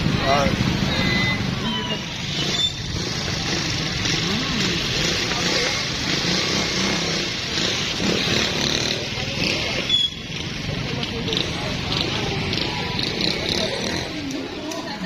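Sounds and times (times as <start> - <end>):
motorcycle engine running: 0.0 - 14.4
road and wind noise: 0.0 - 15.0.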